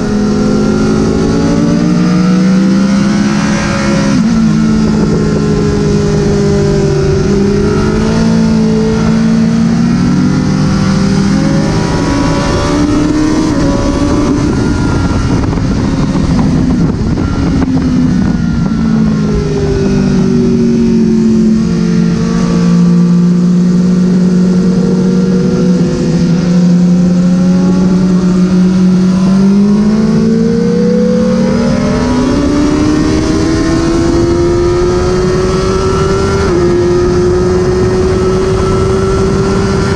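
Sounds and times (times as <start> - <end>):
motorcycle engine at speed: 0.0 - 39.9
wind and road noise: 0.0 - 39.9.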